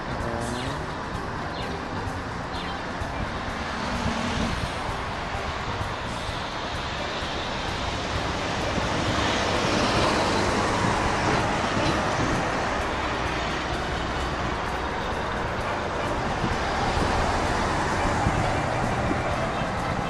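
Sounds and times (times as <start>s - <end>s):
passing vehicles rushing: 0.0s - 20.0s.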